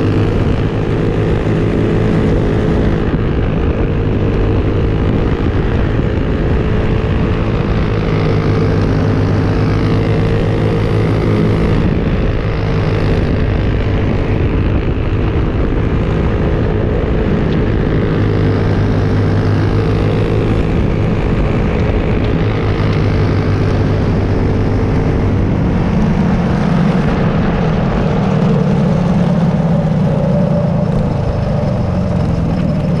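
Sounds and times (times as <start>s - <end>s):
kart engine running hard: 0.0s - 33.0s.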